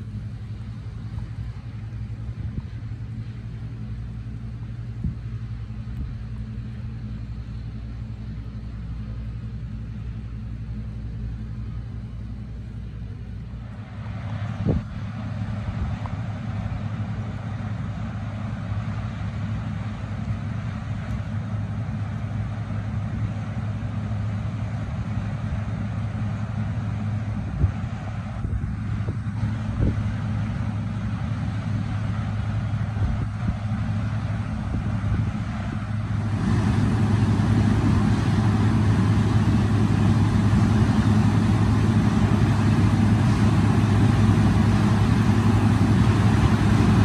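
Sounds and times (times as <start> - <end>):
combine engine drone: 0.0 - 47.0
rushing harvesting noise: 0.0 - 47.0.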